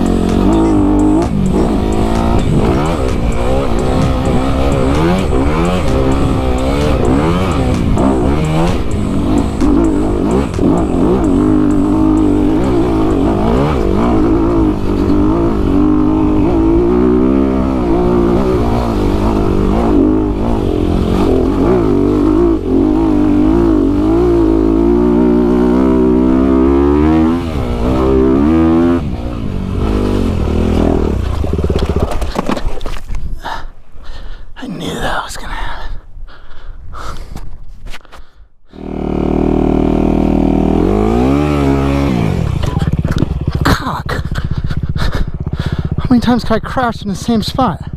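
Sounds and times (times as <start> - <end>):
dirt bike engine revving: 0.0 - 32.6, 38.7 - 47.9.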